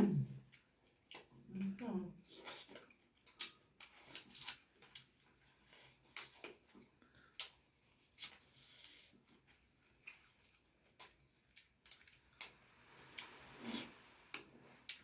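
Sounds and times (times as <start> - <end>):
mouth clicks and smacks eating: 0.4 - 15.0.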